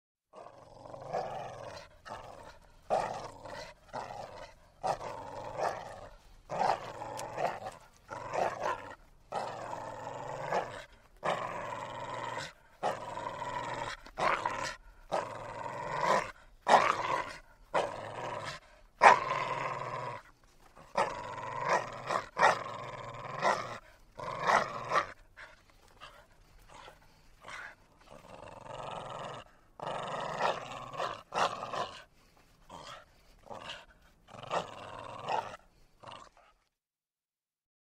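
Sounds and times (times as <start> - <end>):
dog growling: 0.3 - 36.7.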